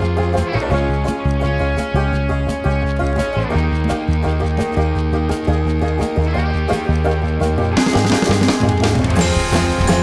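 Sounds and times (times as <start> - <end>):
country guitar and banjo music: 0.0 - 10.0.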